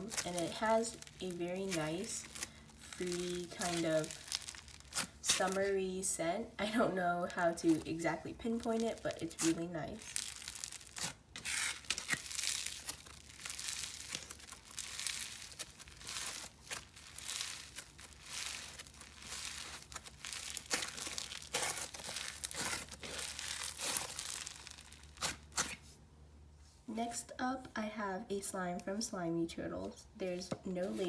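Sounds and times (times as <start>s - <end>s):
slime crunching and crackling: 0.0s - 5.9s, 6.6s - 25.9s.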